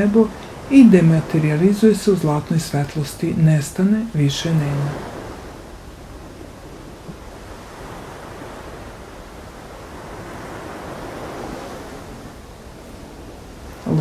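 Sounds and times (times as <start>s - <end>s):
waves washing on beach: 0.0s - 14.0s.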